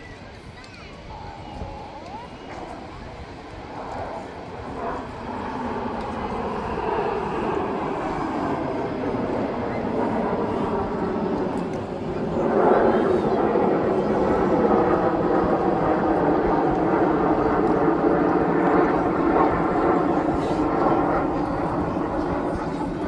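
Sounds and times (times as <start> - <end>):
aircraft engine noise: 0.0 - 23.0.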